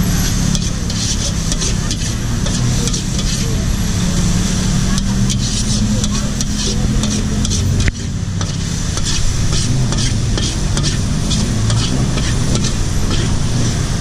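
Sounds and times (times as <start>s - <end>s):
frying sizzle: 0.0s - 14.0s
metal ladle scraping a wok: 0.0s - 14.0s.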